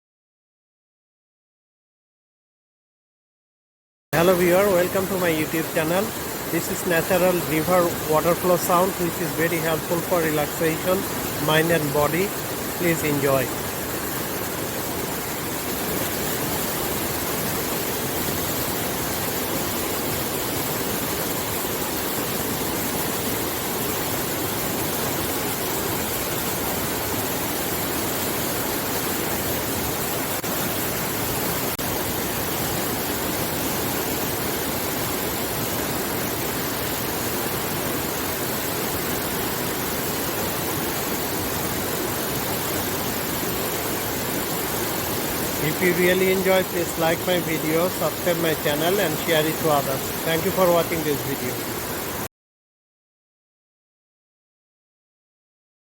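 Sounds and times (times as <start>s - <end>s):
river water flowing: 4.2s - 52.3s.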